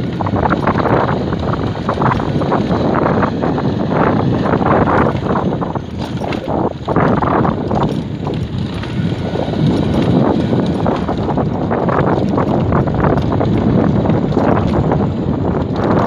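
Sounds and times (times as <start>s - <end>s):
knocks and rattles from bumps: 0.0s - 16.0s
wind rushing over microphone: 0.0s - 16.0s.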